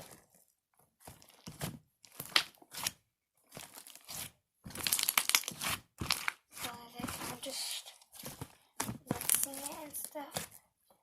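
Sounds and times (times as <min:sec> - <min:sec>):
slime squishing and crackling: 0:00.0 - 0:10.7.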